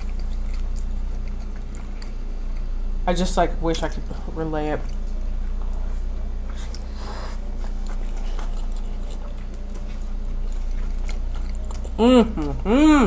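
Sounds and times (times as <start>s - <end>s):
people chewing food: 0.0s - 13.0s
steady low hum: 0.0s - 13.0s.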